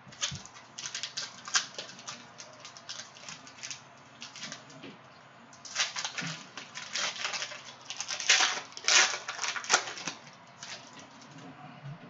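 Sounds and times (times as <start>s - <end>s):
foil wrapper crinkling and tearing: 0.0s - 4.8s, 5.6s - 11.4s.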